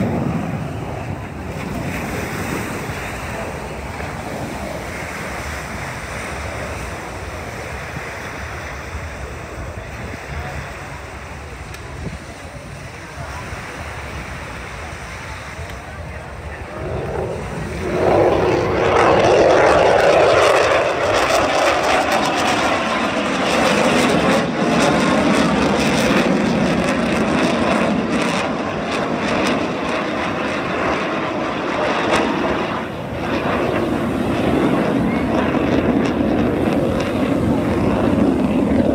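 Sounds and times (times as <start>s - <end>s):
fighter jet engine rumble: 0.0s - 38.9s.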